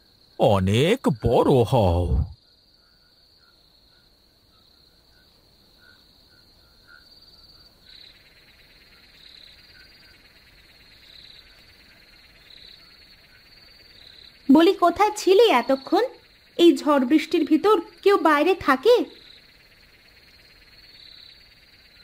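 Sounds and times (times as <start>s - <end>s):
crickets trilling: 0.0s - 22.0s
frogs calling: 0.0s - 22.0s
insect chorus: 0.0s - 22.0s.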